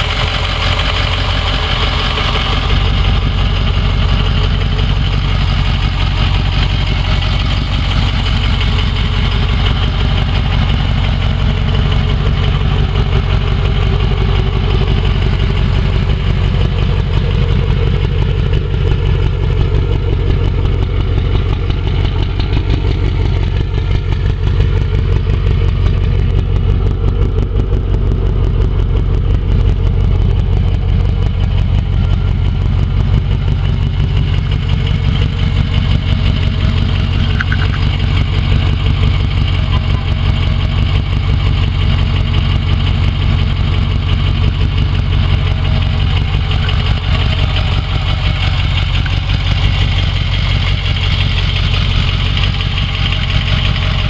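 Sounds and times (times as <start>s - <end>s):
pickup truck engine idling: 0.0s - 54.0s.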